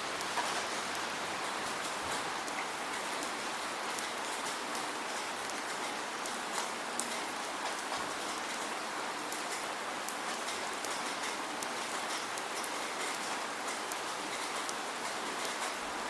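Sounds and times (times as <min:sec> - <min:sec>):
raindrops ticking on a surface: 0:00.0 - 0:16.0
steady rain hiss: 0:00.0 - 0:16.0.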